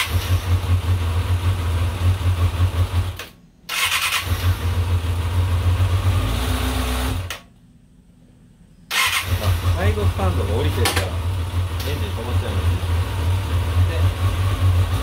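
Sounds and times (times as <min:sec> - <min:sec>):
motorcycle engine running: 0:00.0 - 0:03.2, 0:04.2 - 0:07.2, 0:09.0 - 0:15.0.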